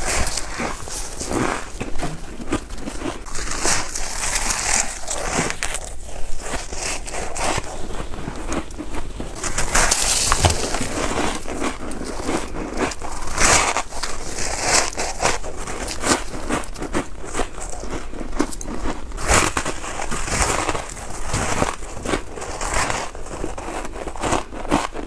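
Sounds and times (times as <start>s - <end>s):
frost being crunched and chewed: 0.0s - 25.0s.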